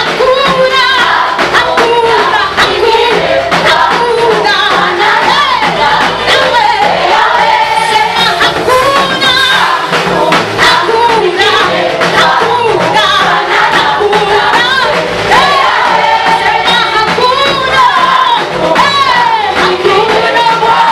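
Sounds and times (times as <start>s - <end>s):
band playing a steady beat: 0.0s - 20.9s
gospel choir singing: 0.0s - 20.9s.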